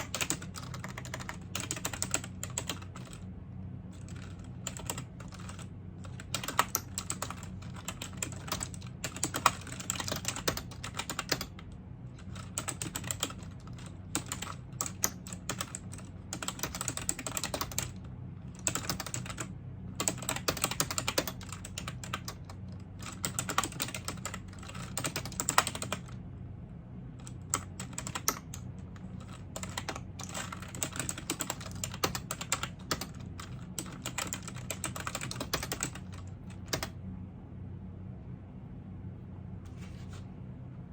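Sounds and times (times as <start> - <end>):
typing on a computer keyboard: 0.0 - 3.2, 4.0 - 18.0, 18.6 - 26.2, 27.2 - 37.0
steady low hum: 0.0 - 40.9.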